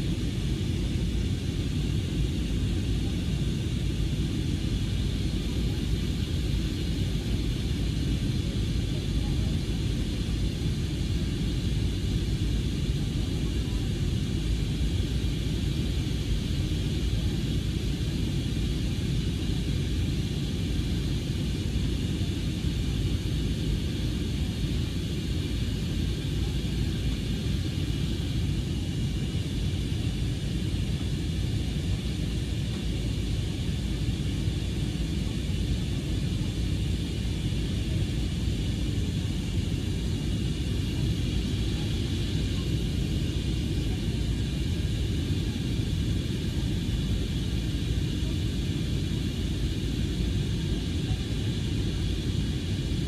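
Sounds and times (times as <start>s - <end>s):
deep rumble of engines and airflow: 0.0s - 53.0s.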